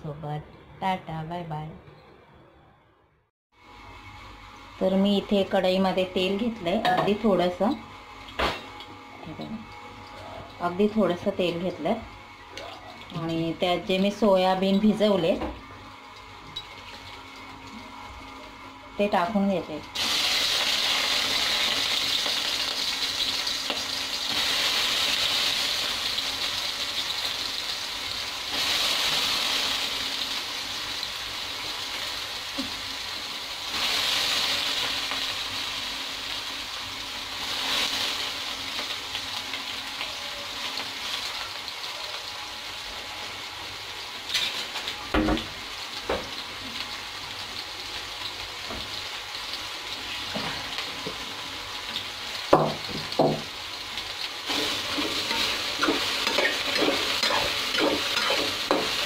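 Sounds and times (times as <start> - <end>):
soya chunks sizzling in oil: 3.6 - 59.0.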